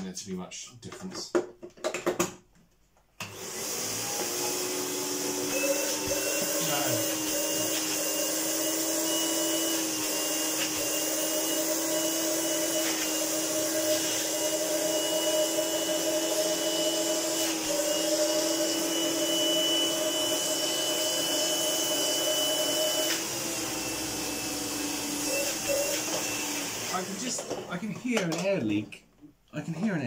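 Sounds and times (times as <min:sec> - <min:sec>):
vacuum cleaner motor droning: 0:03.2 - 0:27.8.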